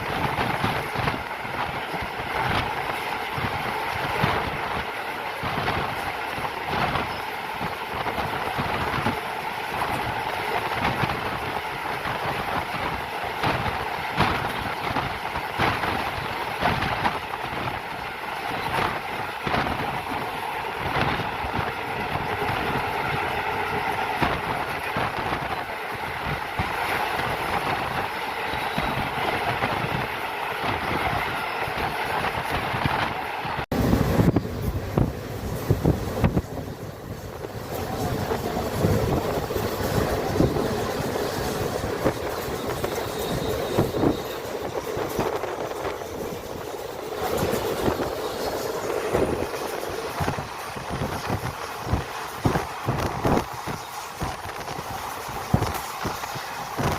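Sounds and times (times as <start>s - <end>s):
train running rumble: 0.0s - 56.9s
wheels clacking over rail joints: 0.0s - 56.9s.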